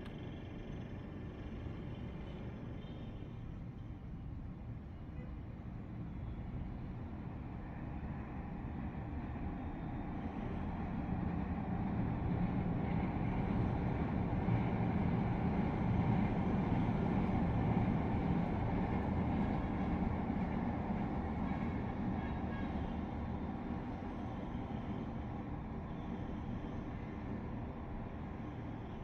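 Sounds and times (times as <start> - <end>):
city traffic hum: 0.0 - 29.0
light-rail train rumbling past: 0.0 - 29.0.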